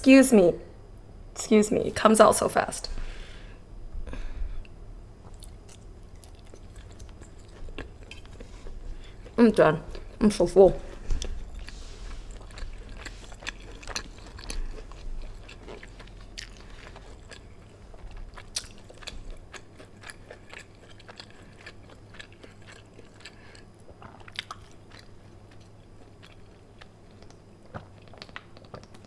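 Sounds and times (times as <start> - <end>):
steady low hum: 0.0 - 29.0
person chewing: 4.1 - 29.0.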